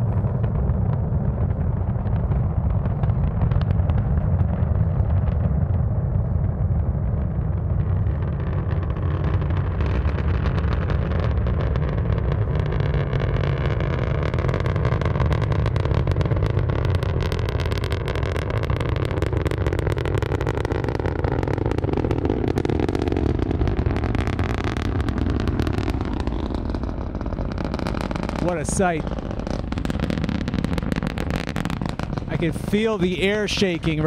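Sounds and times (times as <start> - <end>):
rocket engines rumbling and crackling: 0.0 - 34.0.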